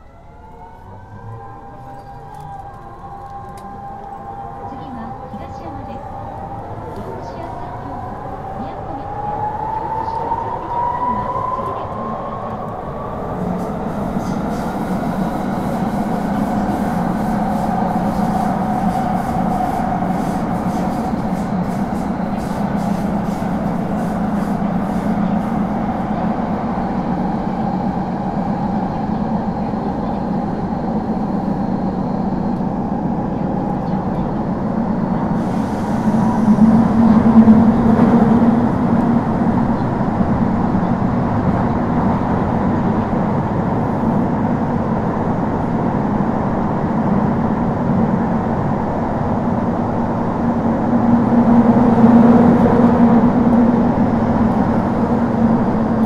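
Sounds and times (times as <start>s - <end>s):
train wheel and rail noise: 0.0s - 56.0s.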